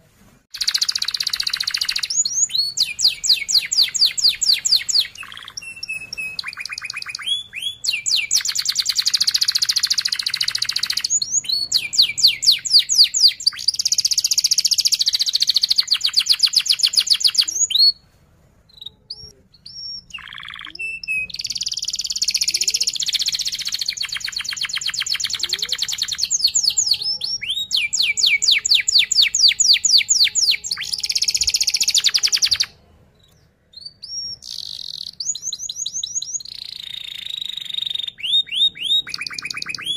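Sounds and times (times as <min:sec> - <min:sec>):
canary singing trills: 0:00.5 - 0:18.0, 0:18.7 - 0:39.9.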